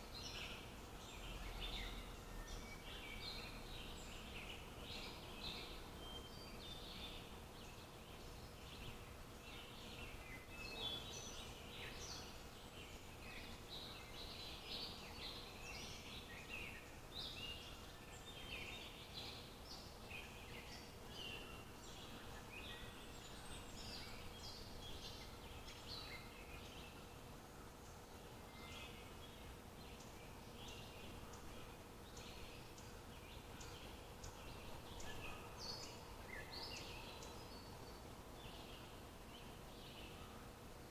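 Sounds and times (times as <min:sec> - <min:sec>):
low background hiss: 0:00.0 - 0:40.9
songbirds chirping: 0:00.0 - 0:40.9.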